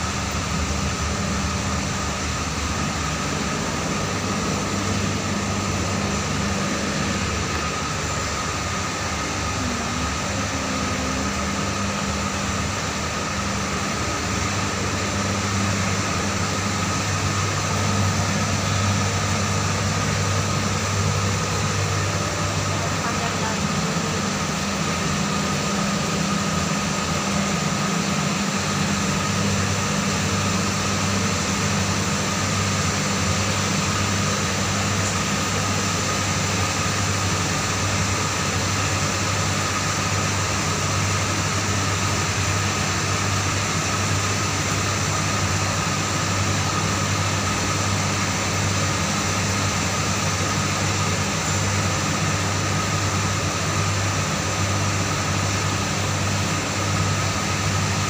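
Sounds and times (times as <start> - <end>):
machine hum with high whine: 0.0 - 58.0.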